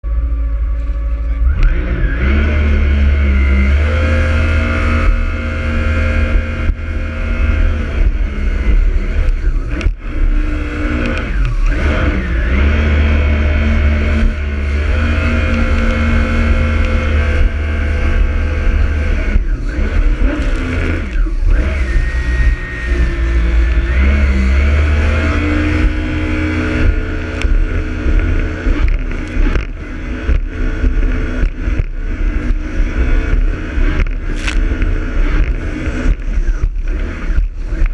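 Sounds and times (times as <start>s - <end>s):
jet ski engine running: 0.0s - 37.9s.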